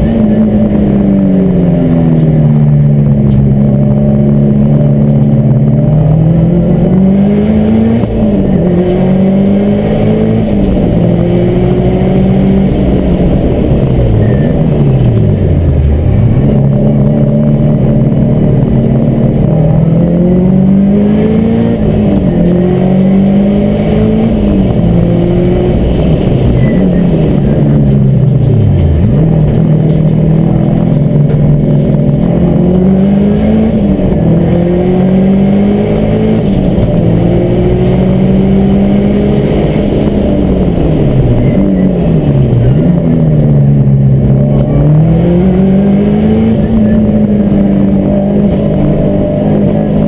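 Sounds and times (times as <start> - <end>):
car engine accelerating hard: 0.0 - 50.0.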